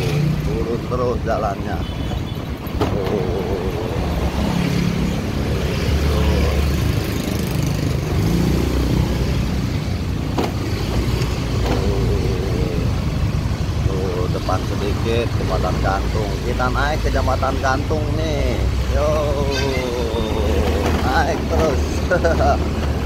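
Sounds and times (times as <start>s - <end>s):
road noise: 0.0s - 23.0s
scooters passing by: 2.4s - 23.0s.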